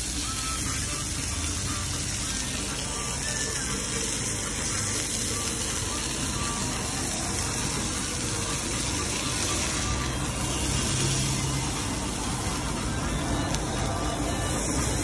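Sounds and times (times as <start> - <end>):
meat patties sizzling on a griddle: 0.0 - 15.0.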